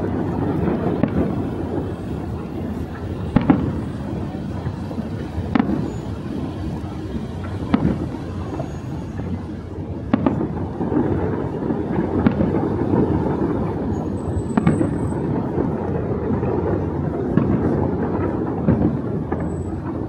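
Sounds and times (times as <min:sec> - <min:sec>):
fireworks bangs: 0:00.0 - 0:20.0
fireworks rumble: 0:00.0 - 0:20.0.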